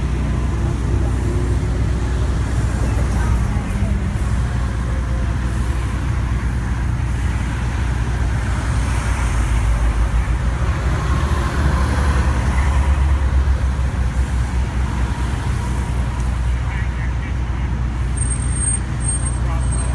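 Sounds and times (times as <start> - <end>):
highway traffic rumble: 0.0 - 19.9.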